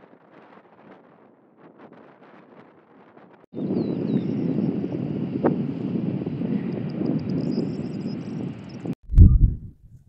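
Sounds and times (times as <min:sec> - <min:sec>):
wind buffeting microphone: 0:00.1 - 0:10.0.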